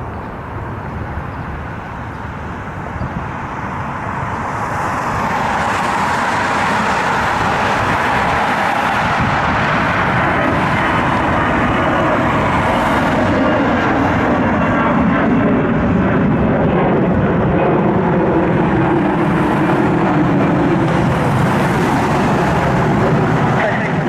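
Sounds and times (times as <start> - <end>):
jet engines at takeoff: 0.0 - 24.0.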